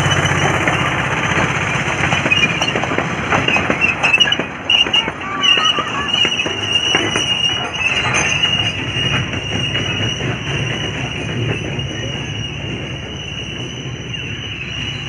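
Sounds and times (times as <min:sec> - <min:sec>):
miniature train rumbling on rails: 0:00.0 - 0:15.0
train knocks on rails: 0:00.0 - 0:15.0.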